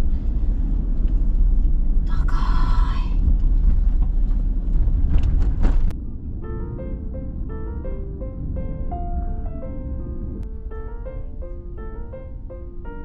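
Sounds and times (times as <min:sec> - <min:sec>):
car rumbling on road: 0:00.0 - 0:13.0.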